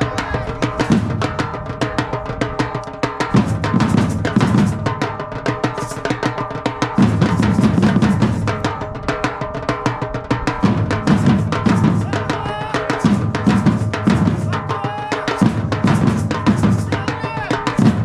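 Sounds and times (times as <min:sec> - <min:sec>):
heavy bass drums: 0:00.0 - 0:18.0
percussion ensemble drumming: 0:00.0 - 0:18.0.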